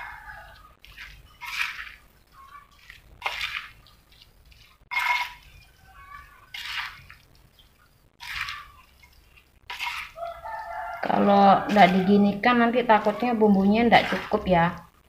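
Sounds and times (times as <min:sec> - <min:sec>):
spoon mixing paste in stone mortar: 0:00.1 - 0:14.9.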